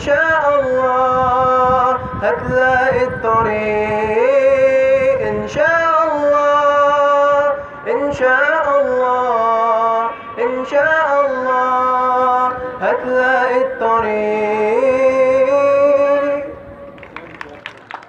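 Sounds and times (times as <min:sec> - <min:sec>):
man singing long held notes: 0:00.0 - 0:16.9.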